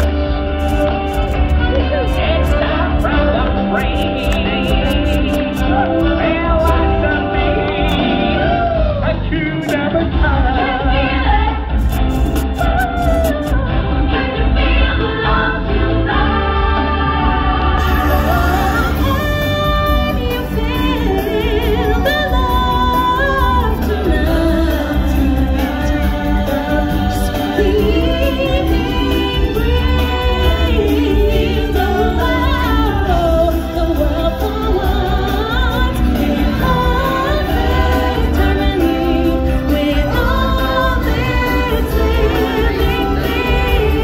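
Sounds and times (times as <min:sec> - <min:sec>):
backing band with heavy bass: 0:00.0 - 0:44.0
singers and choir singing: 0:00.0 - 0:44.0.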